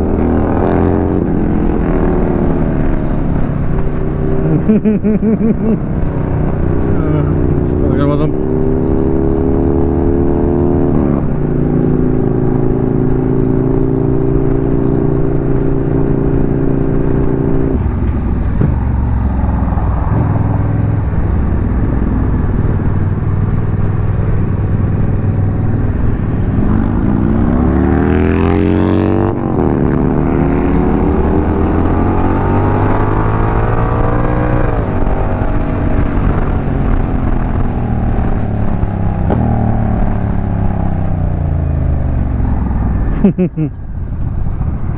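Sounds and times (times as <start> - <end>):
motorcycle engine revving: 0.0 - 43.7.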